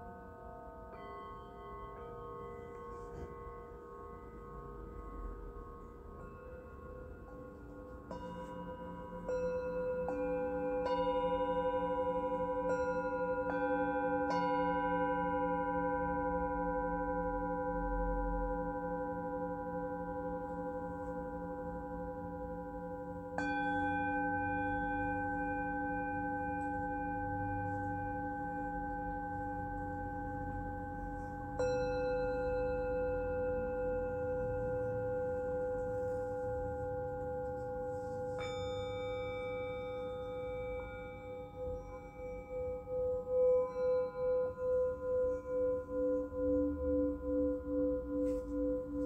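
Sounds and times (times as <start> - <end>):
singing bowls ringing: 0.0 - 49.0.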